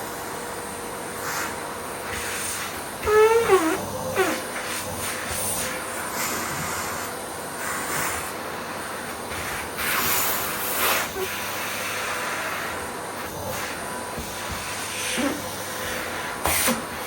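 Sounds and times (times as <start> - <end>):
vacuum cleaner suction: 0.0 - 17.0.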